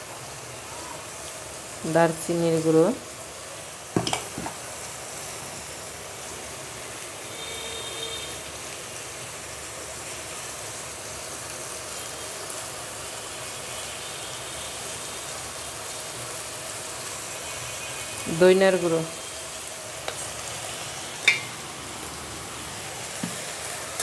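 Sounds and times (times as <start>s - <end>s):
onions and spices sizzling: 0.0s - 24.0s.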